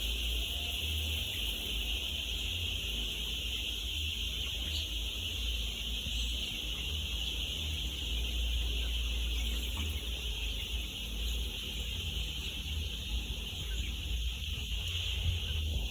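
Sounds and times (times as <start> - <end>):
chicks peeping: 0.0 - 15.9.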